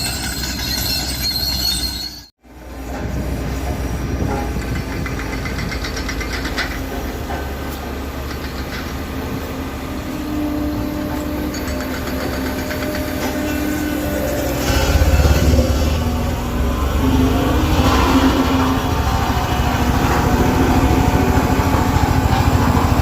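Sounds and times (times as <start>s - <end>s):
diesel earthmoving machinery running: 0.0s - 23.0s.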